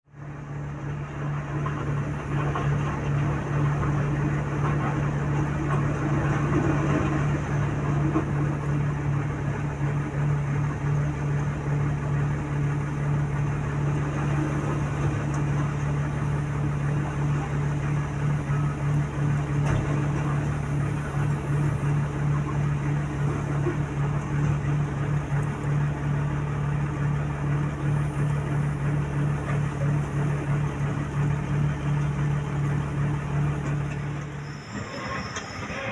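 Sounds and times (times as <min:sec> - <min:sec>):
diesel engine running: 0:00.1 - 0:35.9.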